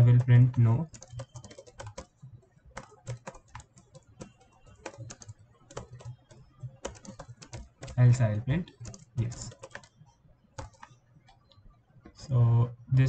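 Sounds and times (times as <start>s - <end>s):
computer keyboard typing: 0.0s - 11.6s.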